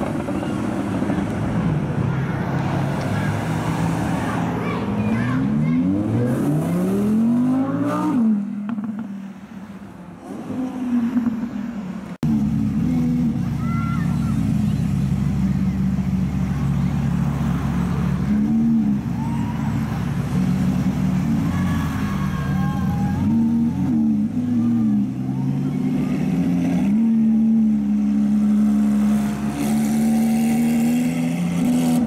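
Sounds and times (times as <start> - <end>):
car engines at low revs: 0.0 - 32.0.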